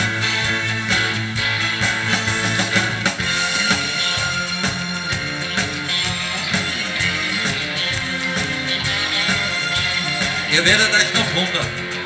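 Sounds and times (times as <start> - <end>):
drum kit: 0.0 - 12.0
guitar: 0.0 - 12.0.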